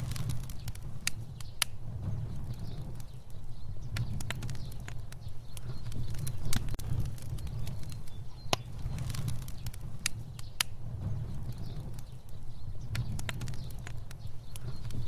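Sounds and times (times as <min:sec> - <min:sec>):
fire burning with low rumble: 0:00.0 - 0:15.0
fire crackling and popping: 0:00.0 - 0:15.0.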